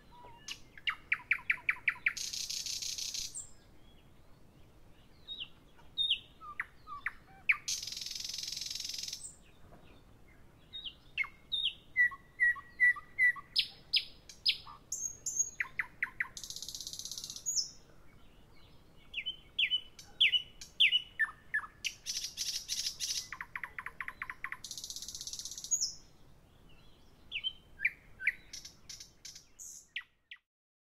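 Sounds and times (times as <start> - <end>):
songbirds singing and chirping: 0.0 - 30.4.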